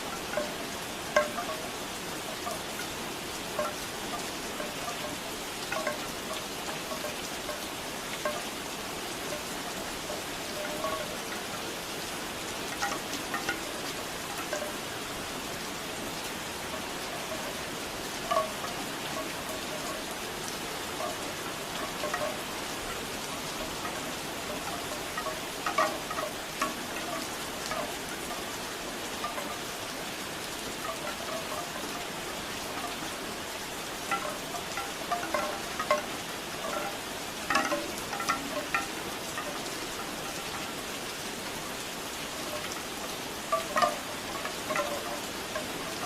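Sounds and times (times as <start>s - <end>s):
bamboo wind chimes clacking: 0.0s - 46.0s
steady rainfall: 0.0s - 46.0s.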